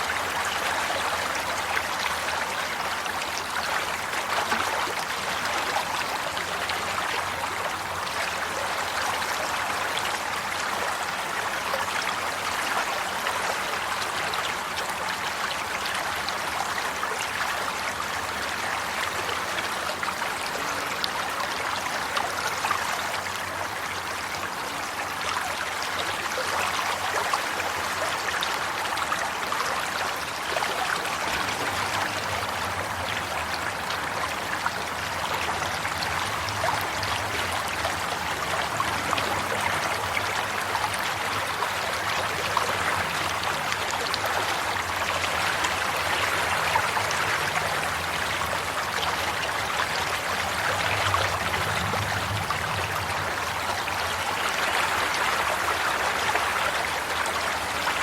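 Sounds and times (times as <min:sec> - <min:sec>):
stream water flowing and splashing: 0:00.0 - 0:58.0.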